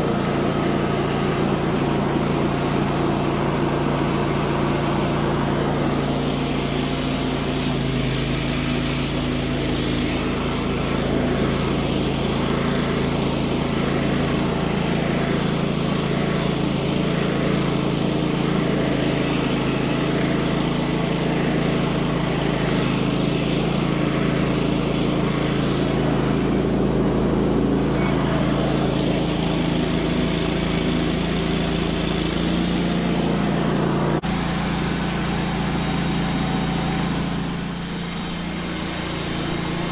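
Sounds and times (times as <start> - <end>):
band sawmill sawing through log: 0.0 - 39.9.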